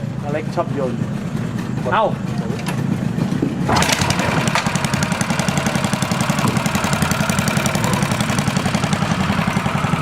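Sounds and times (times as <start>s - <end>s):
boat motor idling: 0.0s - 10.0s.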